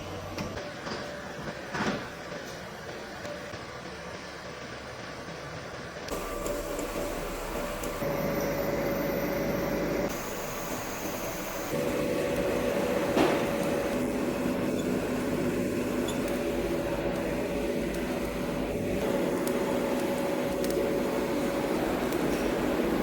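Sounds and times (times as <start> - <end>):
welding machine hum and whine: 0.0 - 23.0.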